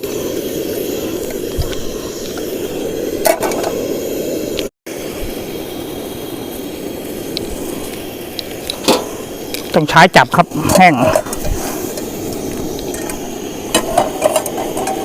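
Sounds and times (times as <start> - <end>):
stove flame roaring: 0.0 - 15.0.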